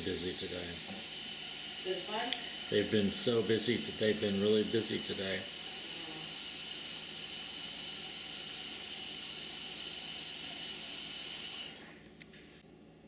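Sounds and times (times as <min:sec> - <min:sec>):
steady hiss: 0:00.0 - 0:11.8.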